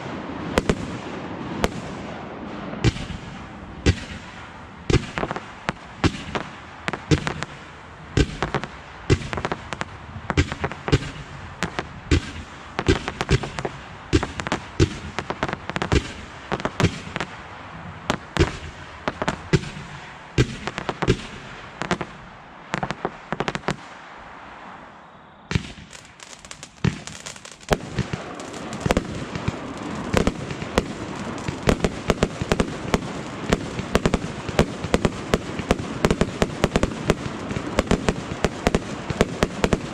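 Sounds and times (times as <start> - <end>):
fireworks bangs and pops: 0.0 - 24.0, 25.5 - 39.9
steady rushing noise: 0.0 - 39.9.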